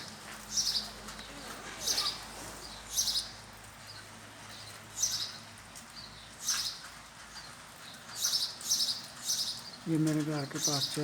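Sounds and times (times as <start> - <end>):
rain falling: 0.0 - 11.0
small bird chirping: 0.5 - 11.0.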